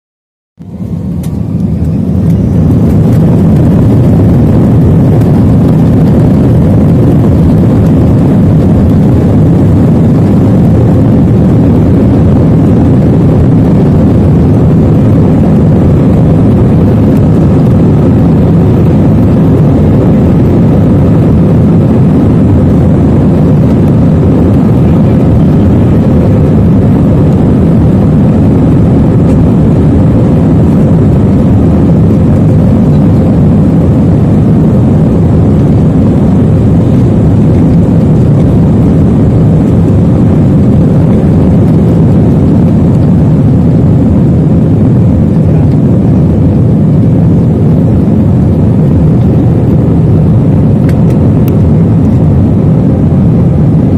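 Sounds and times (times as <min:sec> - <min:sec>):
jet engines roaring in cabin: 0:00.6 - 0:53.9.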